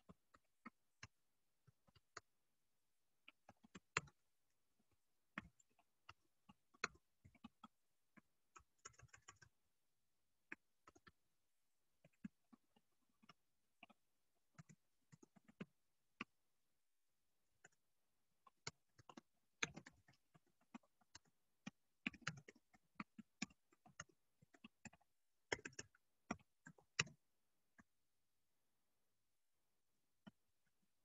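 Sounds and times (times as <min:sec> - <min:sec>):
faint clicks and taps: 0:00.0 - 0:02.4, 0:03.1 - 0:09.6, 0:10.4 - 0:16.5, 0:17.4 - 0:28.0, 0:30.1 - 0:31.0.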